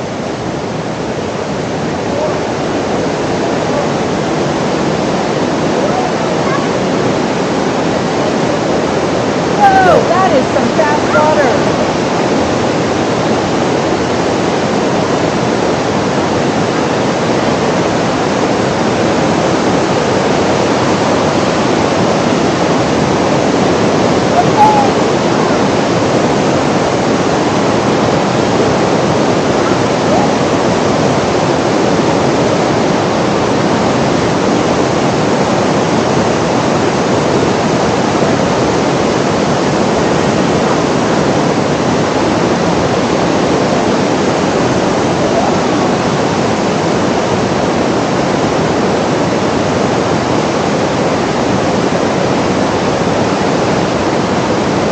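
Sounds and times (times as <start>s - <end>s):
fast-flowing water rushing: 0.0s - 54.9s.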